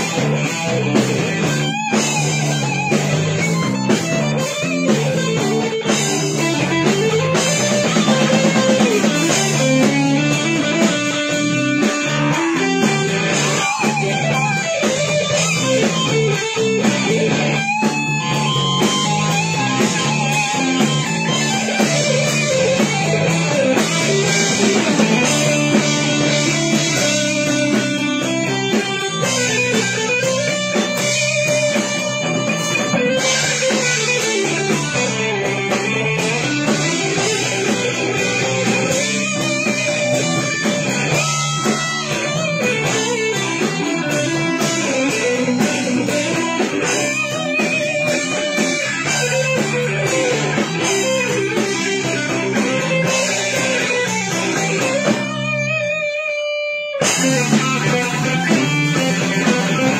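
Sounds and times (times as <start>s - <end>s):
drum kit: 0.0s - 59.9s
electric guitars: 0.0s - 59.9s
melodic guitar line bending: 0.0s - 59.9s.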